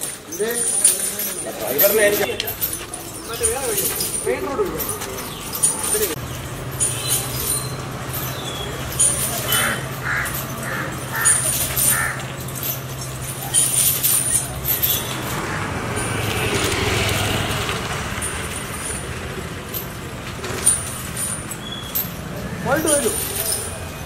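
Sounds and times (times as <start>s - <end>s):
passing vehicle: 0.7s - 24.0s.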